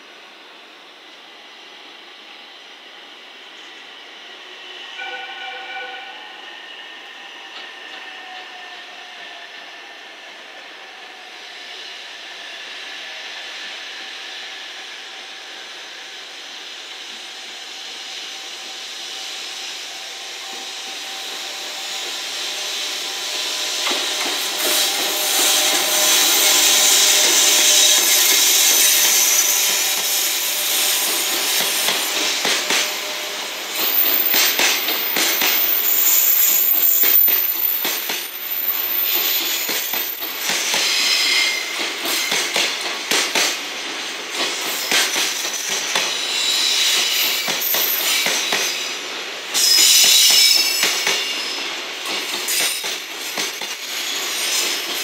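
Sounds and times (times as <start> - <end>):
electric locomotive whine: 0.0 - 55.0.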